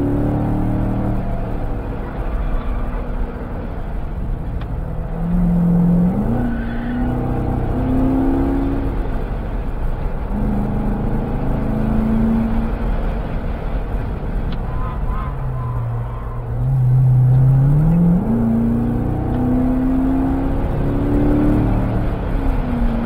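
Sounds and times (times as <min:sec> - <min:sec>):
car engine at speed: 0:00.0 - 0:23.0
wind and road noise: 0:00.0 - 0:23.0.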